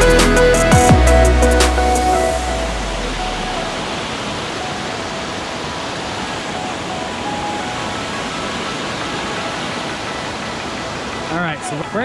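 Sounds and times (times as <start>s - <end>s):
stream rushing over boulders: 0.2s - 12.0s.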